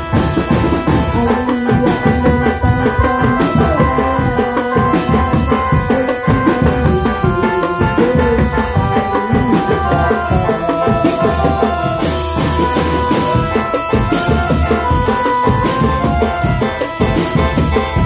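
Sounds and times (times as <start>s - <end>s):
marching drum band playing: 0.0s - 18.0s.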